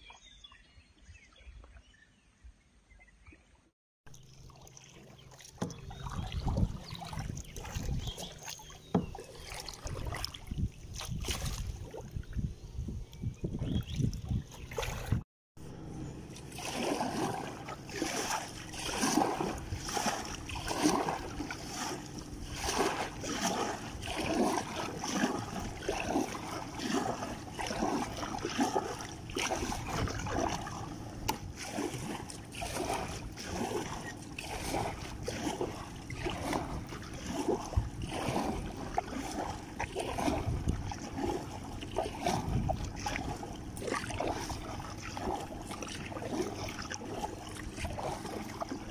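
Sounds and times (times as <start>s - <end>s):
paddle strokes splashing water: 4.1s - 12.5s, 13.1s - 48.9s.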